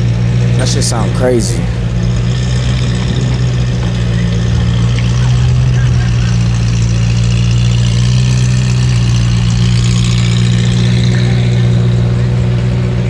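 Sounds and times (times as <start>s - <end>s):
car engine idling: 0.6s - 12.4s.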